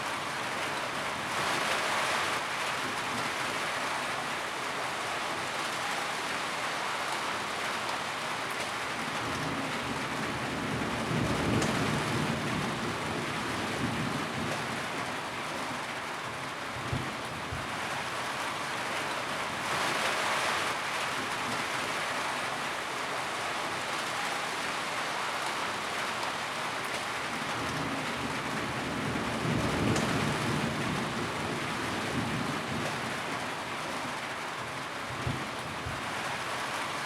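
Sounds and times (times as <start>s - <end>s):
rain on a tin roof: 0.0s - 37.0s.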